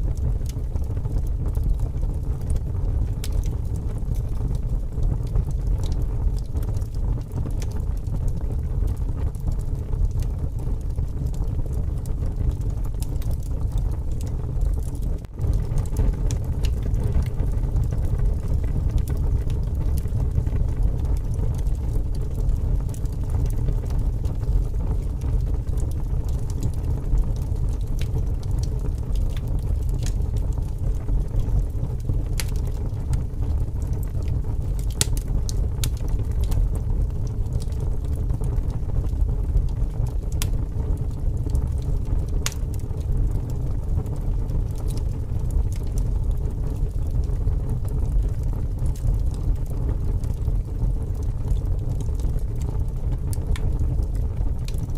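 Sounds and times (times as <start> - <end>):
strong wind rumble: 0.0 - 45.7
wood fire crackling and popping: 0.0 - 54.9.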